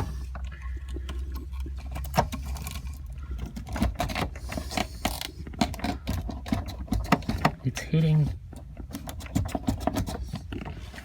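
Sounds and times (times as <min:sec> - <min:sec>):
fuel pump scraping and knocking: 0:00.0 - 0:11.0.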